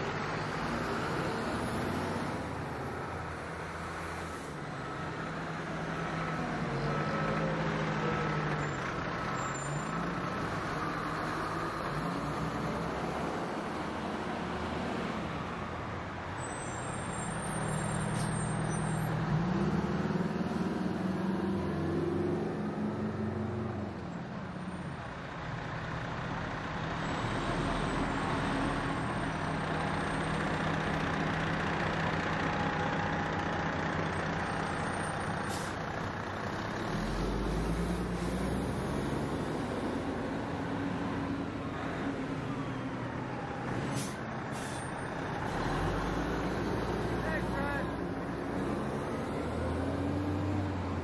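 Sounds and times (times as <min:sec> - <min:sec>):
fire truck diesel engines passing: 0:00.0 - 0:51.0.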